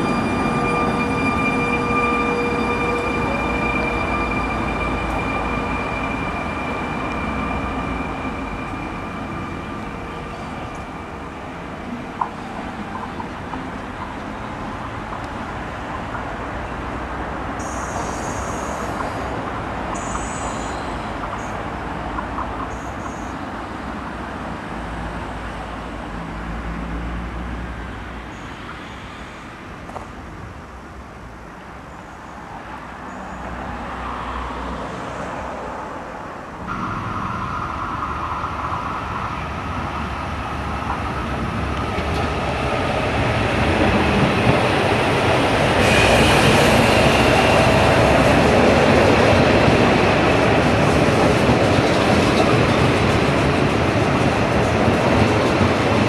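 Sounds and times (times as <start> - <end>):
train wheels rushing on rails: 0.0 - 26.2, 32.6 - 56.0
electric train roar and whine: 0.0 - 56.0.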